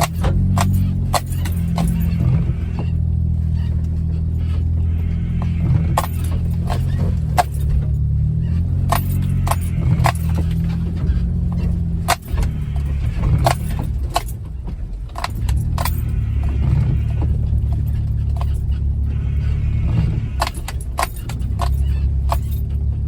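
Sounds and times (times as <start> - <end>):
clicks and rattles in cab: 0.0 - 23.0
engine low drone: 0.0 - 23.0.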